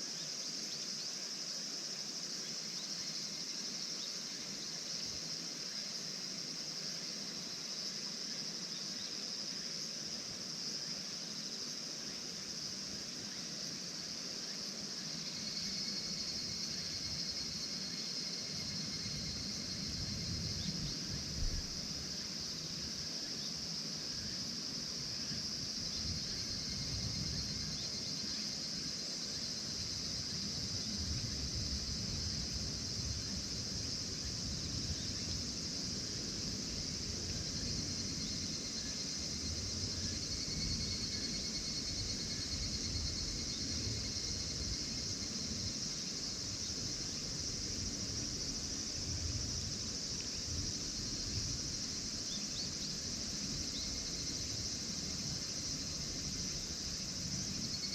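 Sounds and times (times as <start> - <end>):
insects chorus: 0.0 - 57.9.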